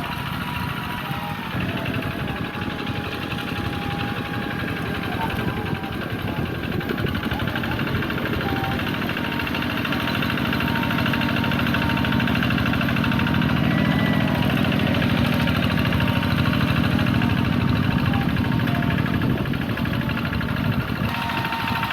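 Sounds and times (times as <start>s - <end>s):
diesel engine chugging: 0.0s - 21.9s.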